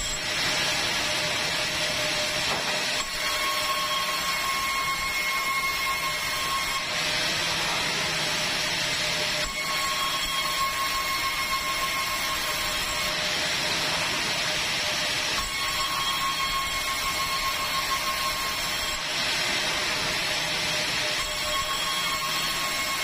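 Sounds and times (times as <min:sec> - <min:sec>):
band saw cutting wood: 0:00.0 - 0:23.0
high saw whine: 0:00.0 - 0:23.0.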